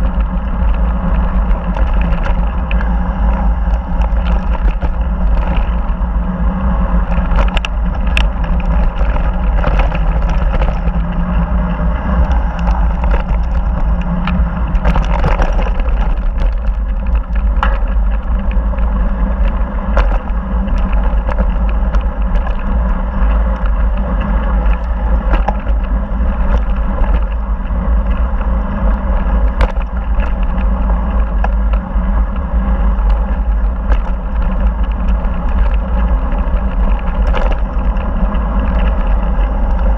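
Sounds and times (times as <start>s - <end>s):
bike clicking and rattling: 0.0s - 39.9s
tyre noise on gravel: 0.0s - 39.9s
wind buffeting microphone: 0.0s - 39.9s.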